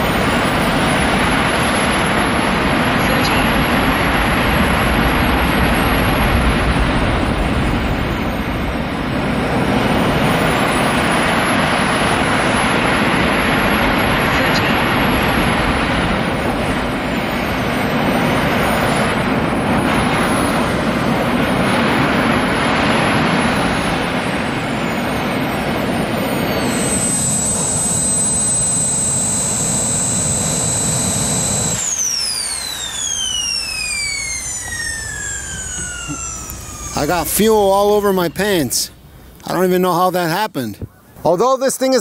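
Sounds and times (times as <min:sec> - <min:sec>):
turbine whine: 0:00.0 - 0:42.0
turbojet engines roaring: 0:00.0 - 0:42.0.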